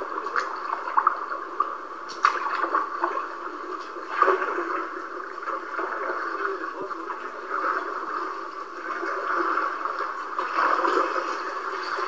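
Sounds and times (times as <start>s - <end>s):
floodwater sloshing and gurgling: 0.0s - 12.0s.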